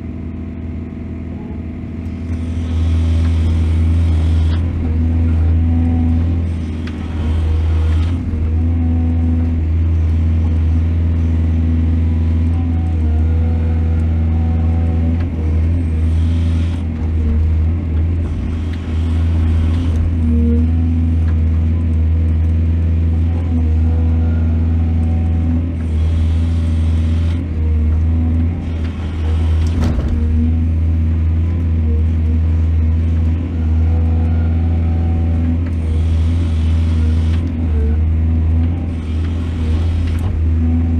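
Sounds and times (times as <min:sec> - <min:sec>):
digging and loading noise: 0:00.0 - 0:40.9
excavator diesel engine: 0:00.0 - 0:40.9.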